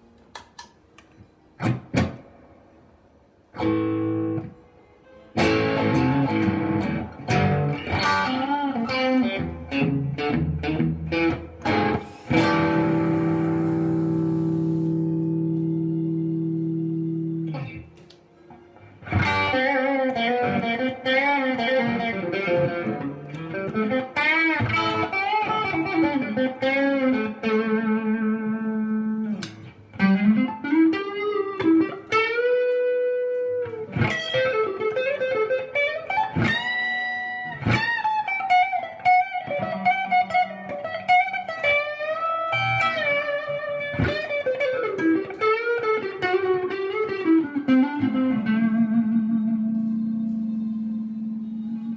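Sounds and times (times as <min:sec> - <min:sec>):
electric guitar lead lines: 0:00.0 - 0:51.9
electric guitar chord: 0:03.6 - 0:51.9.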